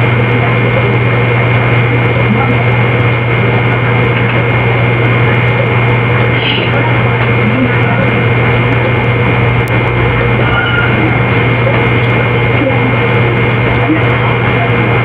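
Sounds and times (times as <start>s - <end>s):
faint high whine: 0.0s - 15.0s
low hum: 0.0s - 15.0s.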